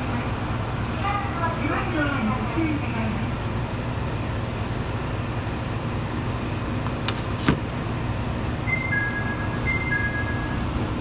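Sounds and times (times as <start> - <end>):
diesel railcar engine running: 0.0 - 11.0.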